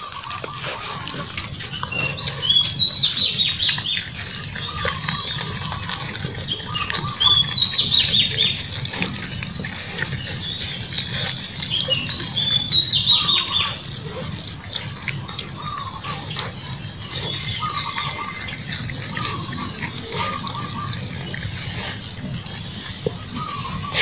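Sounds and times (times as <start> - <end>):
puppies chewing and snuffling: 0.0 - 24.0.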